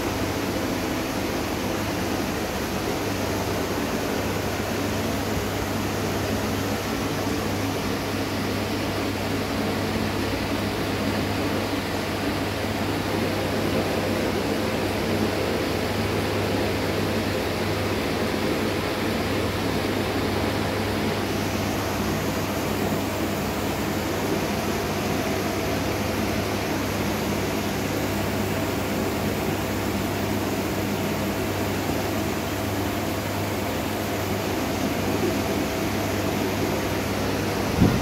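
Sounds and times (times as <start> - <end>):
air pump hum: 0.0 - 38.0.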